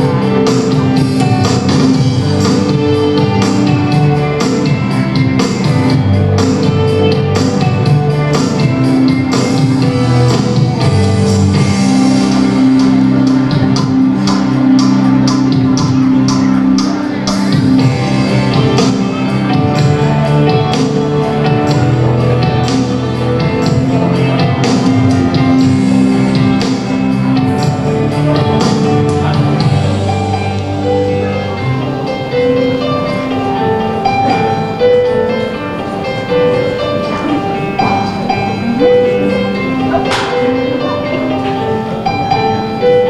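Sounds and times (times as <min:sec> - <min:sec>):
processional music: 0:00.0 - 0:43.0.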